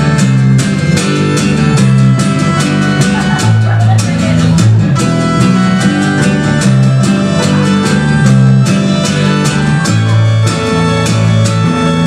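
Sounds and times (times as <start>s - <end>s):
guitar strummed: 0.0s - 12.0s.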